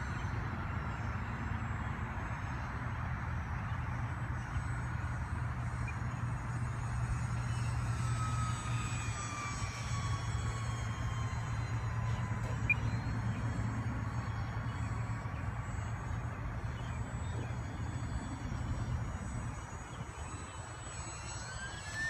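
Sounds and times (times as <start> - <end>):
model plane motors whining: 0.0 - 22.0.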